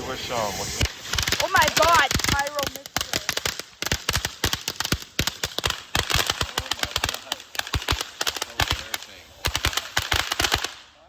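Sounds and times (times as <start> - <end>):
firework cracks and bangs: 0.0 - 11.0.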